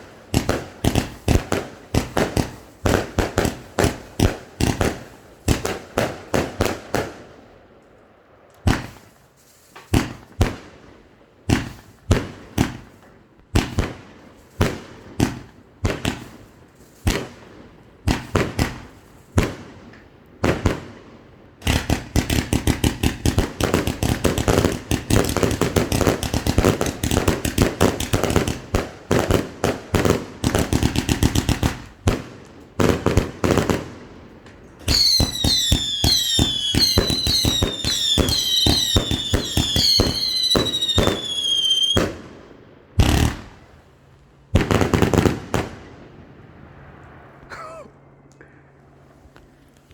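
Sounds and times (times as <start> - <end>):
fireworks bangs: 0.0 - 7.3, 8.6 - 43.8, 44.5 - 47.8.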